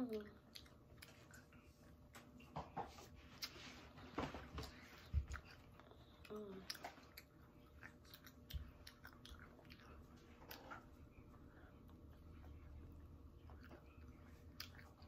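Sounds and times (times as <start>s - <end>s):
child chewing: 0.0s - 15.0s.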